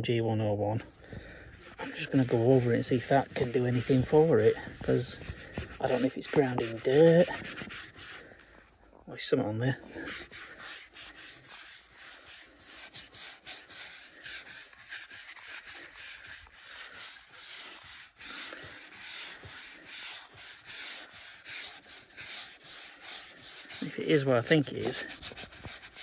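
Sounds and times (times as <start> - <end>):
sponge scrubbing steering wheel: 0.7 - 8.8, 9.6 - 26.0.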